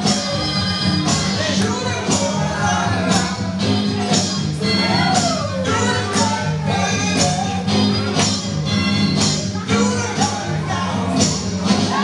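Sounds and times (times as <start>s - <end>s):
person singing: 0.0s - 8.5s, 9.2s - 12.0s.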